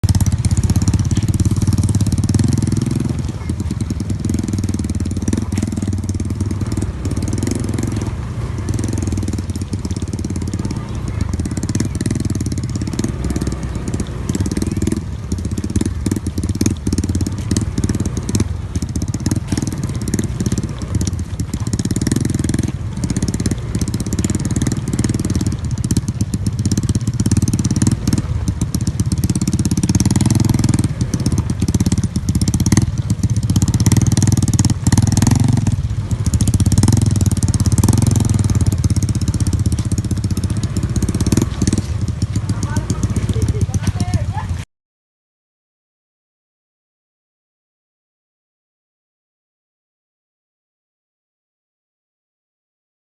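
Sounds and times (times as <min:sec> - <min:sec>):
engine running: 0:00.0 - 0:44.7.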